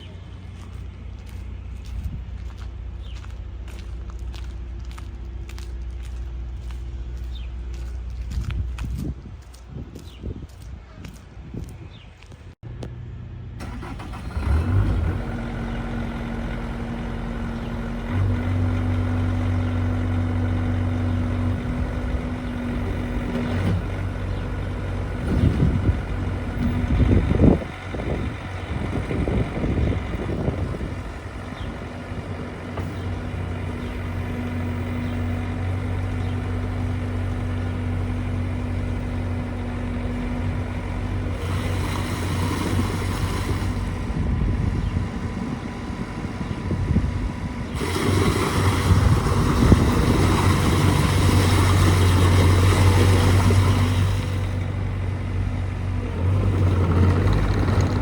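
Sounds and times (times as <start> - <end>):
diesel engine running: 0.0 - 9.9, 12.6 - 58.0.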